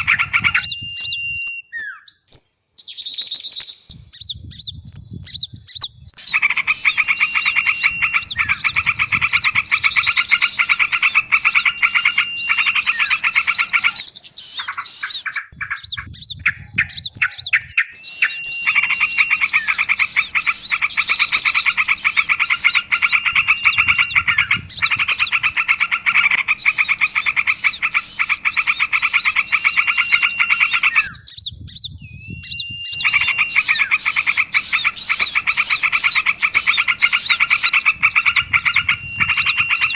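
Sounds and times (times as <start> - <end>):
fast rattling bird trill: 0.0 - 39.9
songbirds chirping: 0.0 - 39.9.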